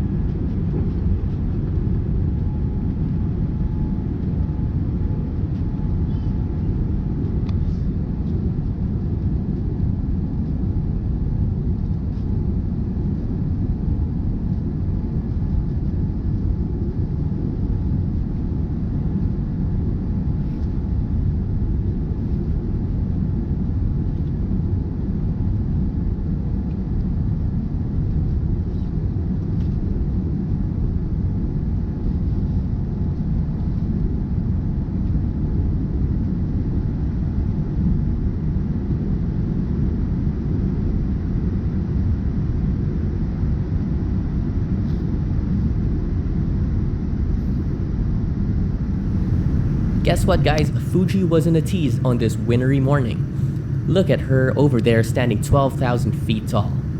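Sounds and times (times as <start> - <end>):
airliner engines rumbling in cabin: 0.0 - 56.9.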